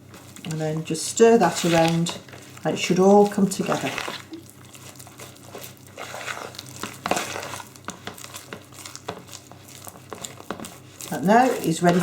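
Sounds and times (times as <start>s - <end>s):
spoon scraping a mixing bowl: 0.0s - 12.0s.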